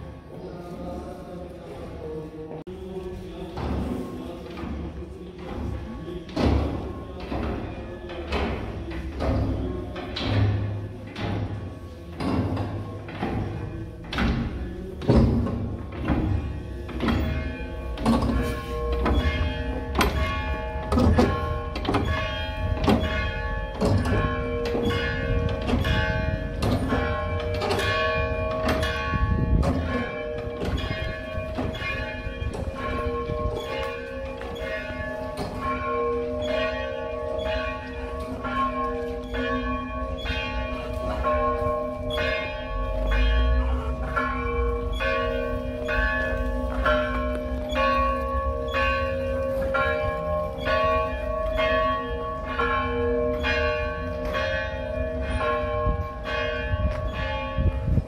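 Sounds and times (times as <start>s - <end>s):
church bells pealing: 0.0s - 58.0s.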